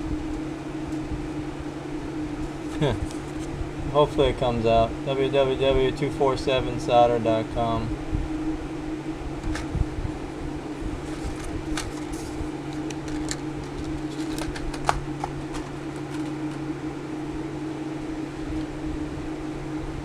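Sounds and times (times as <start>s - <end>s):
electric fan hum: 0.0s - 20.0s.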